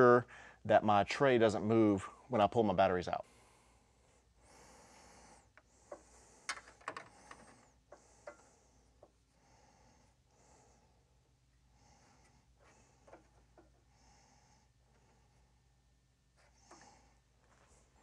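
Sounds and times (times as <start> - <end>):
soft breathing: 3.2 - 18.0.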